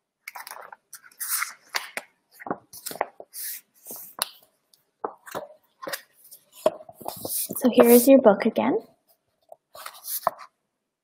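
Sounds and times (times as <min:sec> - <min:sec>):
book pages turning: 0:00.2 - 0:08.1, 0:09.5 - 0:10.6.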